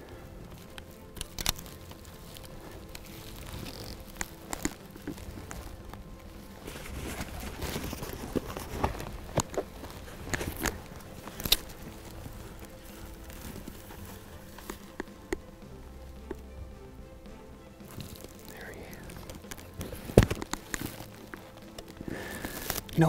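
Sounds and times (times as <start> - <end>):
footsteps crunching through dry grass: 0.0 - 23.0
pack and bow rustling and knocking: 0.0 - 23.0.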